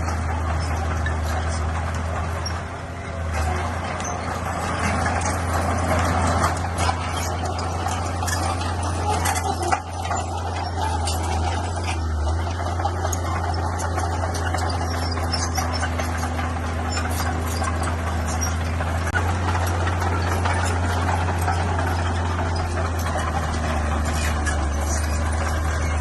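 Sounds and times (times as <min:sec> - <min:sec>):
bulldozer diesel engine running: 0:00.0 - 0:26.0
metallic clanks: 0:00.0 - 0:26.0.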